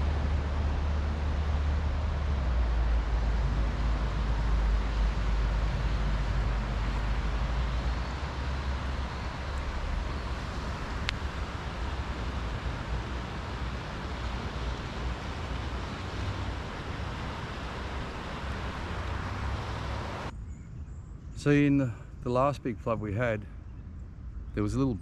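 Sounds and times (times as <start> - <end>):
car engine and road rumble: 0.0 - 21.5.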